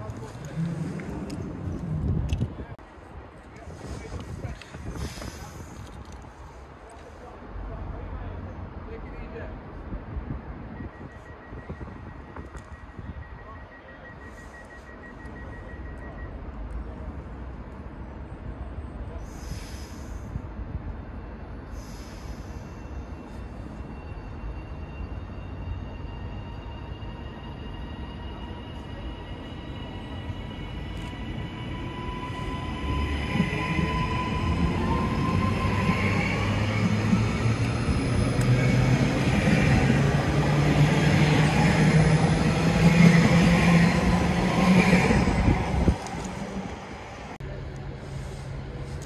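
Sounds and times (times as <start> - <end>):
train rumble: 0.0 - 49.0.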